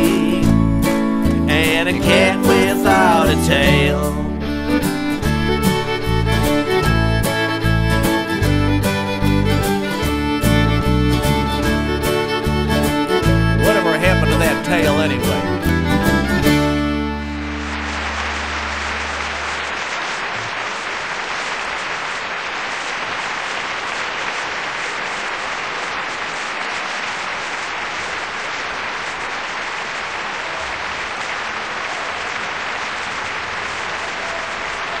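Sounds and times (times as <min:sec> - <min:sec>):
audience applauding: 0:00.0 - 0:35.0.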